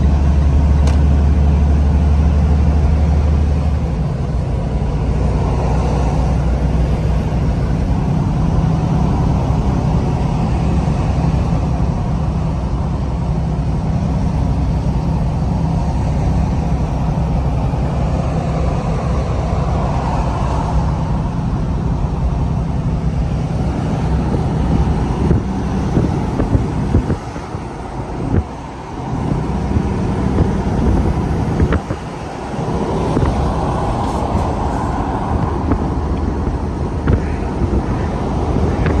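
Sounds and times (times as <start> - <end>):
truck engine and road drone: 0.0 - 39.0.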